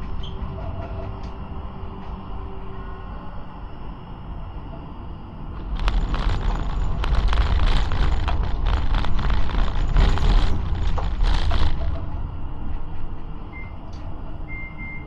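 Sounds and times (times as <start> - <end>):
tram rumbling on rails: 0.0 - 14.5.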